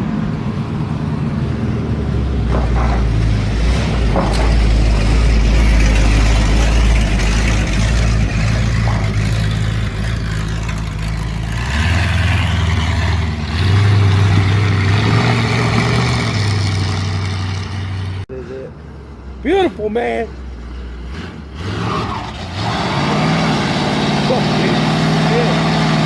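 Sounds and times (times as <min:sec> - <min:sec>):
loud truck engine revving: 0:00.0 - 0:18.7, 0:20.6 - 0:26.0.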